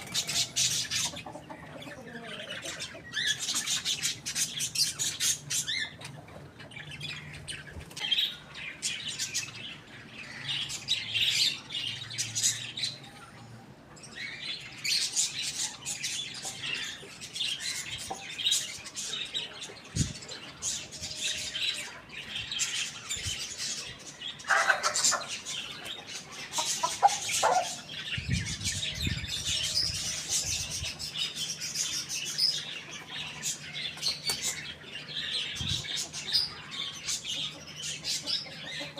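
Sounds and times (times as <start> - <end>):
flock of birds chirping: 0.0 - 38.9.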